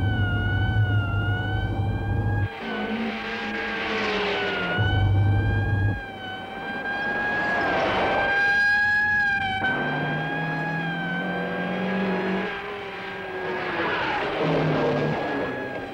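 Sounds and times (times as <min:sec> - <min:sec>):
car engine revving: 0:00.0 - 0:15.9
tyre and road noise: 0:00.0 - 0:15.9.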